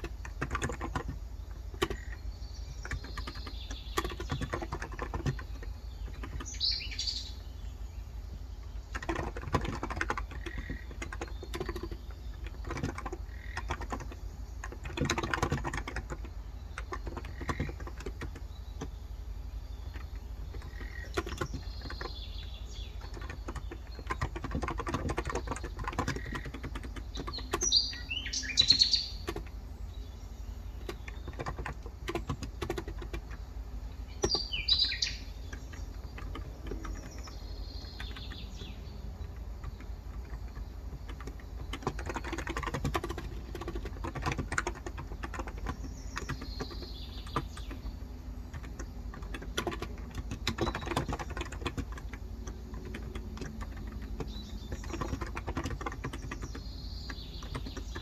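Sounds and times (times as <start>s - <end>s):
soft keyboard keystrokes: 0.0s - 6.6s, 8.6s - 19.1s, 19.8s - 58.0s
birds chirping: 0.0s - 58.0s.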